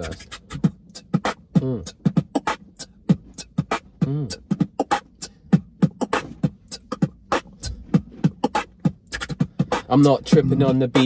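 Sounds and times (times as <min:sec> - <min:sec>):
beatboxing: 0:00.0 - 0:11.0
wobbling vocal bass: 0:00.0 - 0:11.0.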